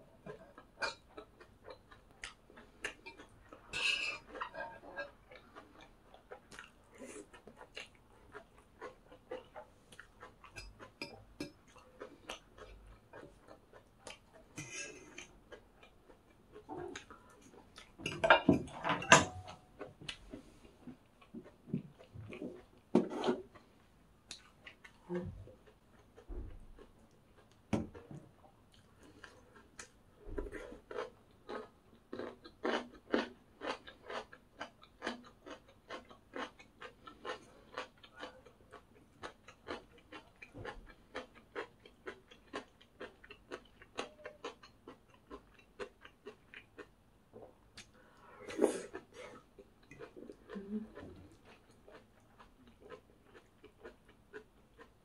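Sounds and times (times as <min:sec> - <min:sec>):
chewing crisp food: 0:00.1 - 0:18.8, 0:19.4 - 0:55.0.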